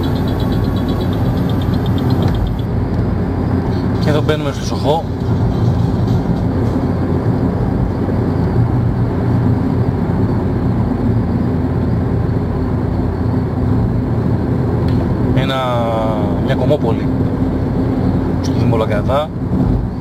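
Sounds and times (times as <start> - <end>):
engine drone inside car: 0.0 - 20.0.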